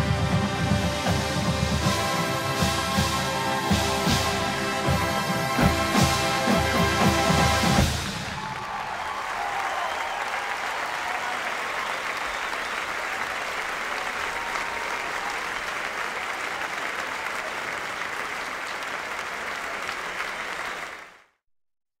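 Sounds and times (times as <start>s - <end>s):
stadium crowd applauding: 0.0s - 21.4s.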